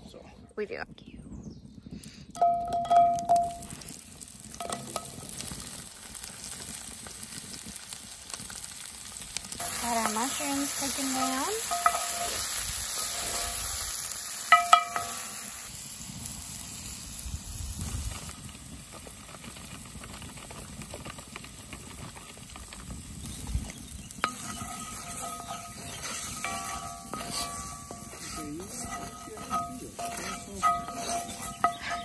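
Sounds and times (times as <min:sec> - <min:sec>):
mushrooms sizzling in a skillet: 0:02.8 - 0:32.0.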